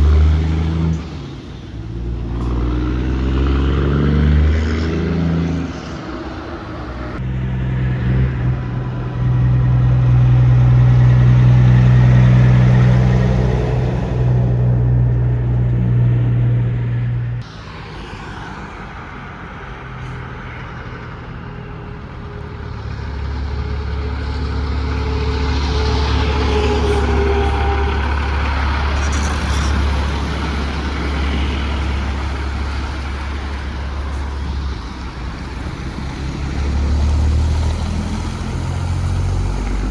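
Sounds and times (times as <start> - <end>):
deeper engine hum: 0.0 - 39.9
truck engines droning: 0.0 - 39.9.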